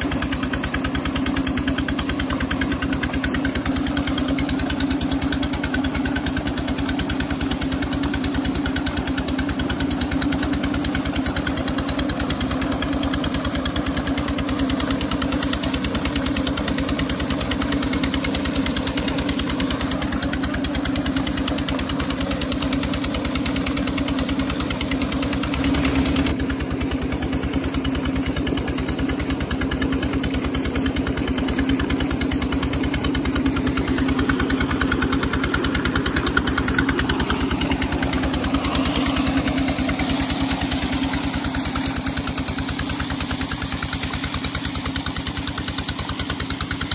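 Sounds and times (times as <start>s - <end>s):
engine knocking steadily: 0.0s - 46.9s
water gushing and splashing: 0.0s - 46.9s.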